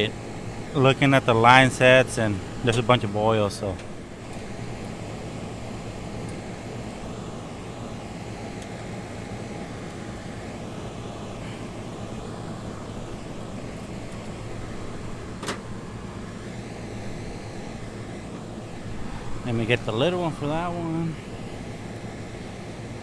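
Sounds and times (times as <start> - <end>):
condenser fan humming: 0.0 - 23.0.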